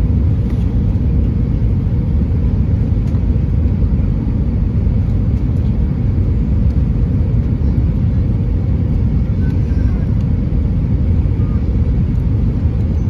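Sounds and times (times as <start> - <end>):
airplane cabin low rumble: 0.0 - 13.0.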